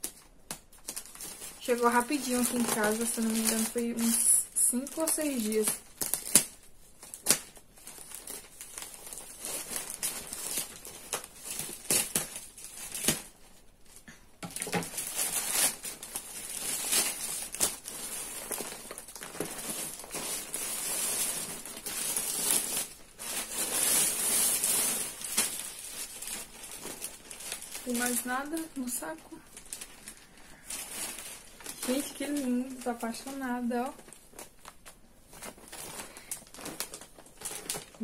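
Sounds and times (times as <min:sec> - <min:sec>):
plastic bag crinkling: 0:00.0 - 0:38.0.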